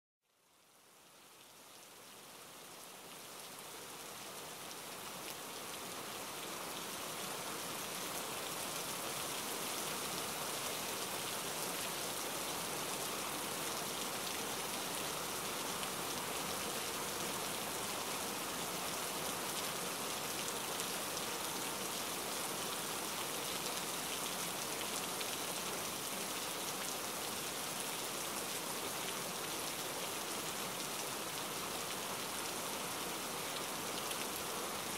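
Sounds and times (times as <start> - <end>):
steady rain falling: 0.3 - 34.9.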